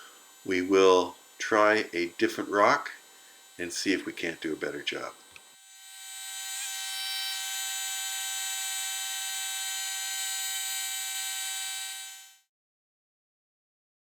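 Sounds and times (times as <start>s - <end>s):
high-pitched buzz: 0.0s - 12.5s.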